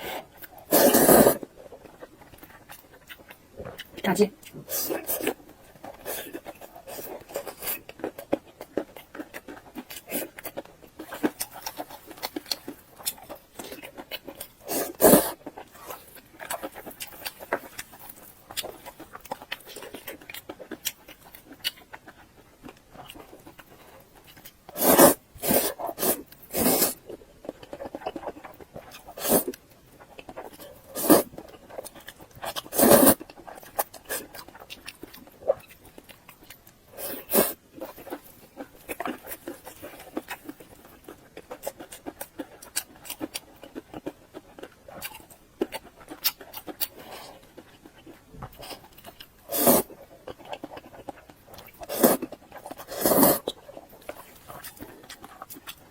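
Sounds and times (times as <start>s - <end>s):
person chewing: 0.0s - 55.9s.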